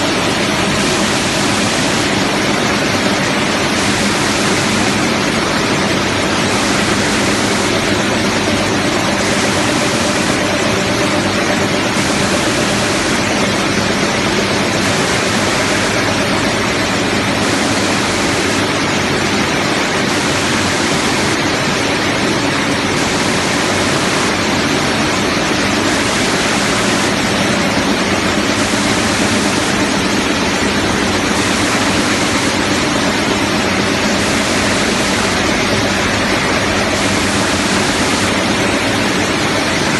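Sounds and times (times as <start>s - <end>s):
low machinery hum: 0.0s - 39.9s
machinery hissing: 0.0s - 39.9s.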